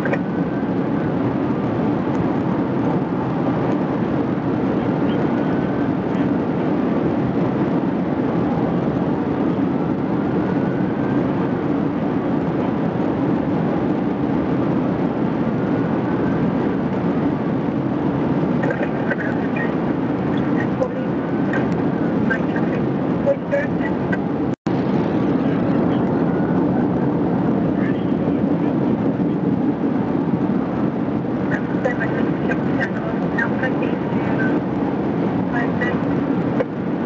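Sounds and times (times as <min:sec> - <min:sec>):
car road and wind noise: 0:00.0 - 0:37.0.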